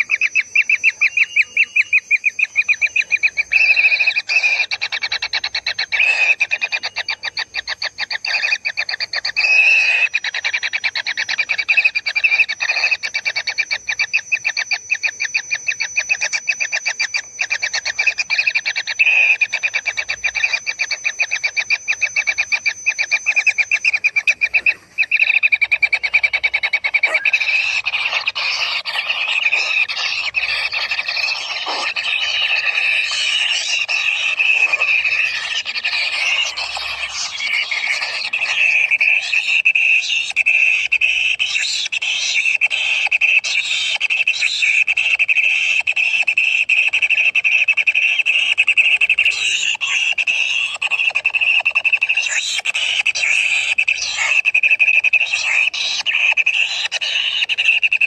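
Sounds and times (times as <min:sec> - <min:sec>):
nestlings buzzing begging call: 0:00.0 - 0:58.0.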